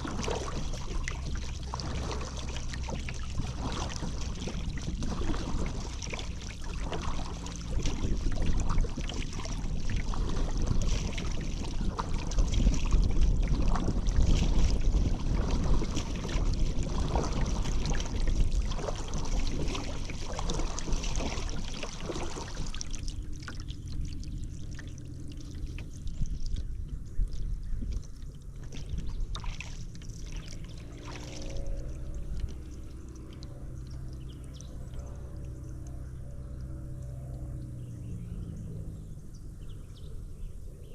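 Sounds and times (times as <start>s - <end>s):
paddle splashing in water: 0.0s - 36.1s
water drips: 0.0s - 39.0s
water trickling off paddle: 0.0s - 39.8s.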